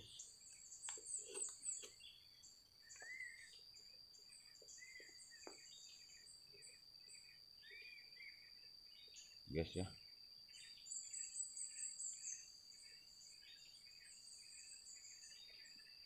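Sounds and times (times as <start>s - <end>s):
birds chirping: 0.0s - 16.0s
insect drone: 0.0s - 16.0s.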